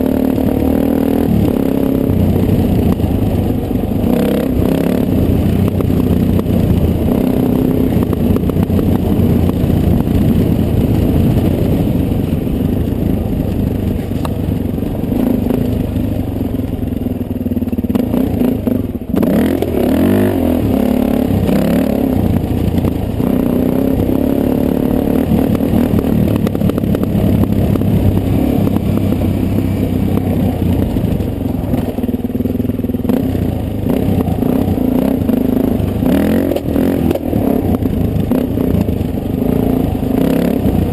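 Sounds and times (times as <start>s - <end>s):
dirt bike engine revving: 0.0s - 12.7s, 17.9s - 40.9s.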